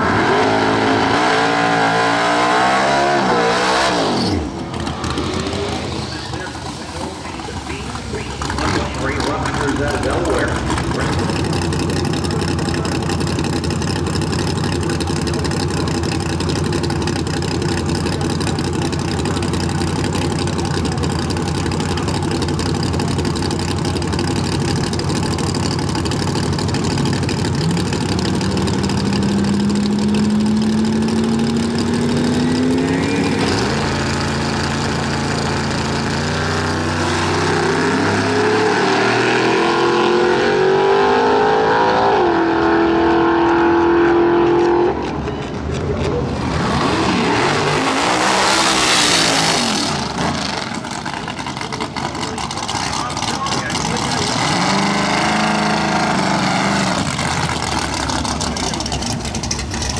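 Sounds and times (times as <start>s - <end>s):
engine revving up: 0.0s - 59.9s
race car engines idling: 0.0s - 59.9s.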